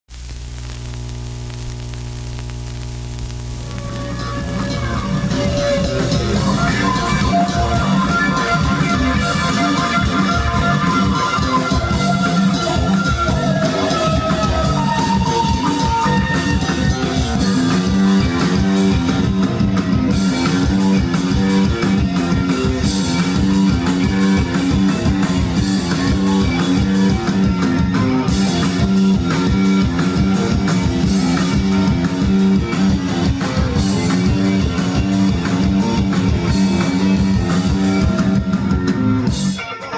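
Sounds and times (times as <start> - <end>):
bass line: 0.0 - 39.6
drum kit beat: 0.1 - 39.9
lead melody: 3.6 - 39.9
live rock band playing: 3.6 - 39.9.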